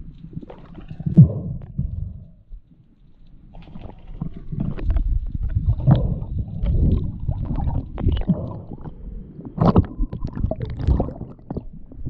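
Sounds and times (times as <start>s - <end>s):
underwater rumbling and gurgling: 0.0s - 12.0s.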